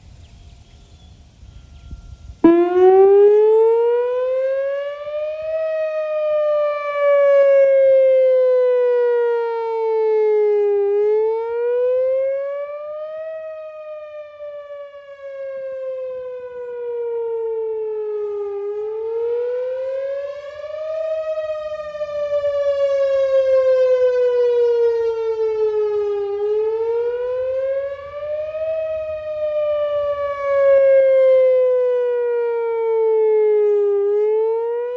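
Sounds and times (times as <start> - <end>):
warning siren wailing: 0.8 - 34.9.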